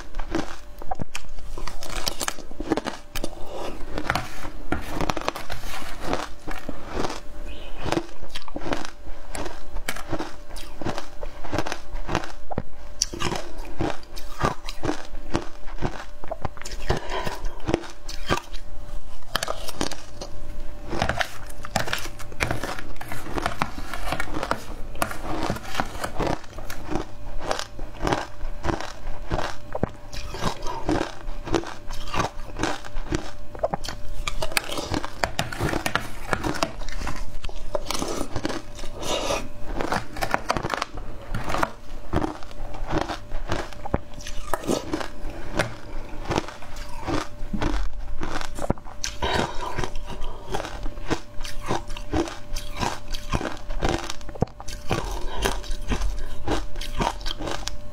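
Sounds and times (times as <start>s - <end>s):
crunchy ice being chewed: 0.0s - 57.9s.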